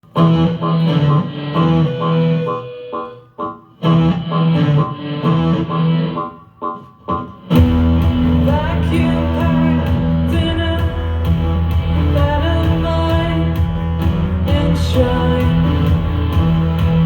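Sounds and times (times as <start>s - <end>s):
electric guitar riff: 0.0s - 17.0s.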